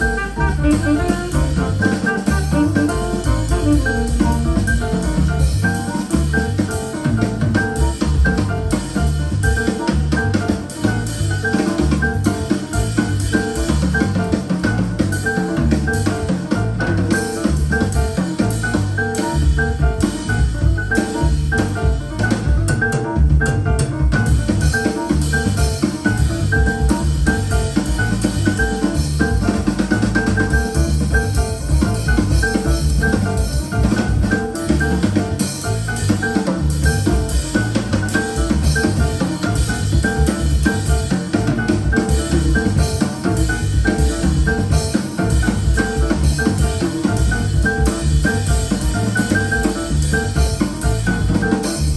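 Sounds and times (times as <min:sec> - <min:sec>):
instrumental jazz through speakers: 0:00.0 - 0:51.9.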